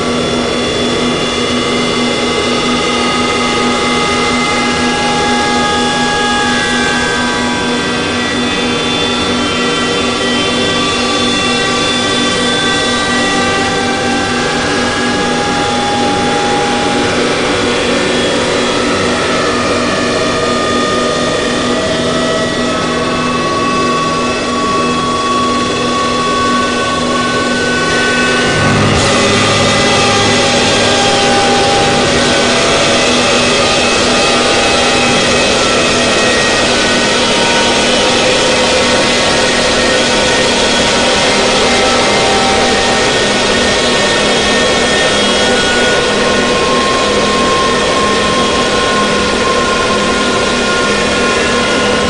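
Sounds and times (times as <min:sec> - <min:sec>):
distorted noise wall: 0:00.0 - 0:52.0
harsh noise drone music: 0:00.0 - 0:52.0.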